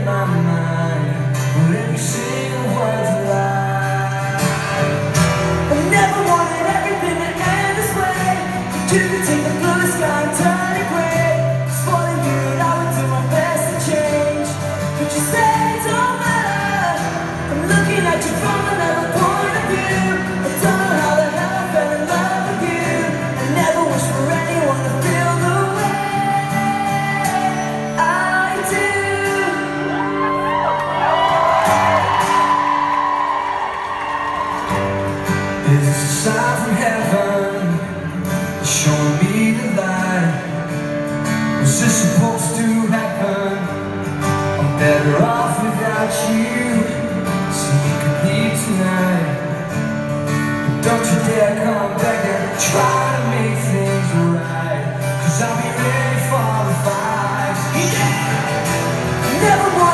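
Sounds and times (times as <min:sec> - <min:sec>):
man singing: 0:00.0 - 0:31.9, 0:35.5 - 0:59.9
acoustic guitar: 0:00.0 - 0:59.9.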